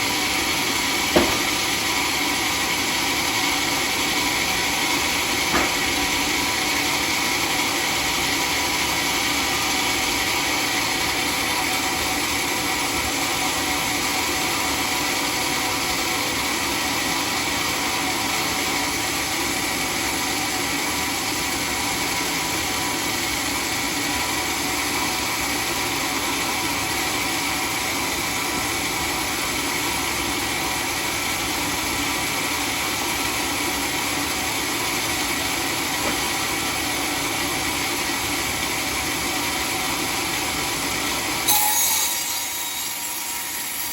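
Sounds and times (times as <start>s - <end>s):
circular sawmill running: 0.0s - 43.9s.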